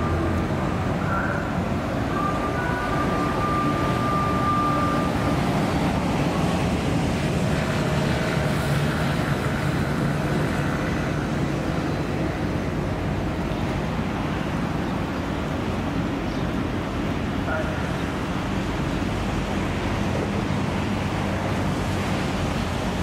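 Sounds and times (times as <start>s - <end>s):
ship engines rumbling: 0.0s - 23.0s.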